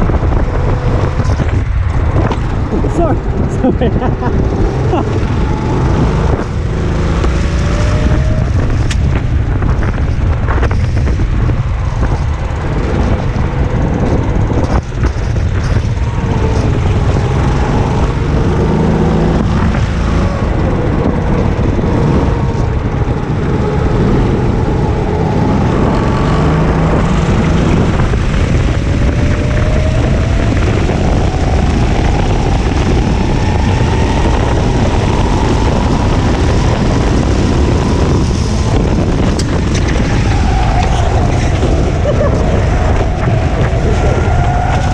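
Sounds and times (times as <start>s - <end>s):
go-kart engine revving: 0.0s - 44.9s
wind rumble on microphone: 0.0s - 44.9s.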